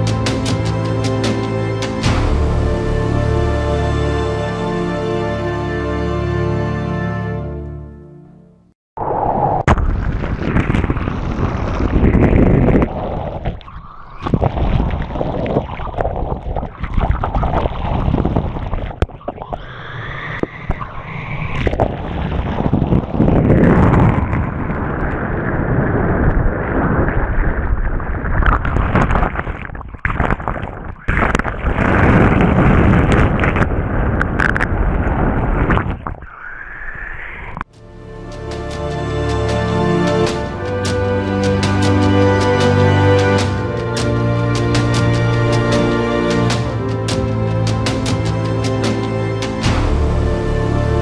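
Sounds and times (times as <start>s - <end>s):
water rushing and gurgling: 0.0s - 7.3s, 9.0s - 51.0s.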